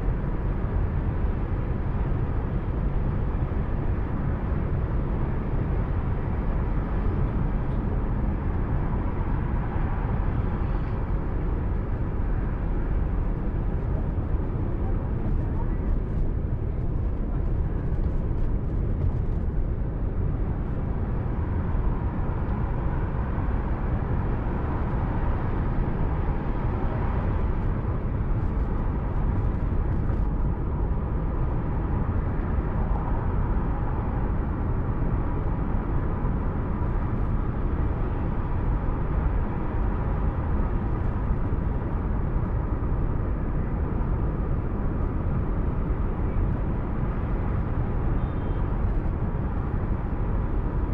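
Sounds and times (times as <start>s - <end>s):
car road and engine noise: 0.0s - 50.9s
faint steady whine: 0.0s - 50.9s.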